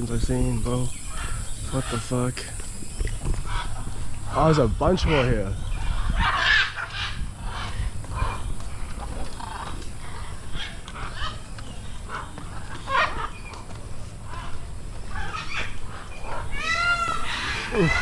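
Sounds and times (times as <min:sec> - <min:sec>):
steady low rumble: 0:00.0 - 0:16.6
birds calling: 0:00.0 - 0:18.0.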